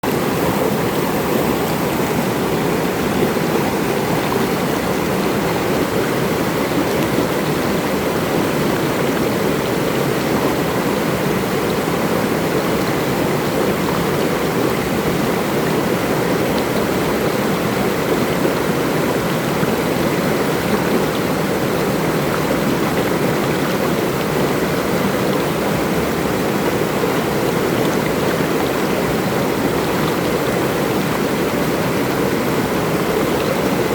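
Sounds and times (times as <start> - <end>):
water babbling: 0.0 - 33.9.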